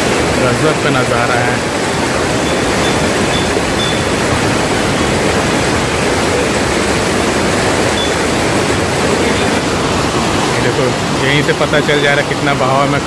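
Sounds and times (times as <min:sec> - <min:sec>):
river rushing over rapids: 0:00.0 - 0:13.0.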